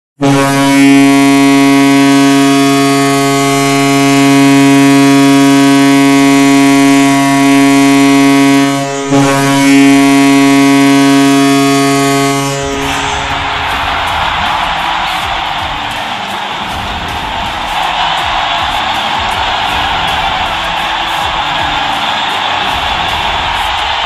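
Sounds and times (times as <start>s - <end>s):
deep goal horn blasts: 0.2s - 24.0s.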